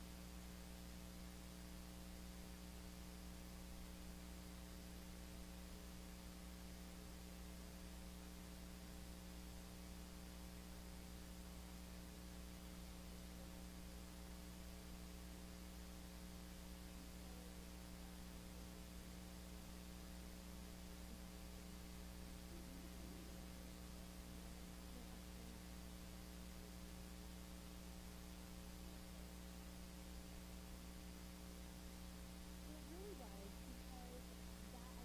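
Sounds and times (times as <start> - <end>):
faint hiss: 0.0 - 35.0
steady electrical hum: 0.0 - 35.0.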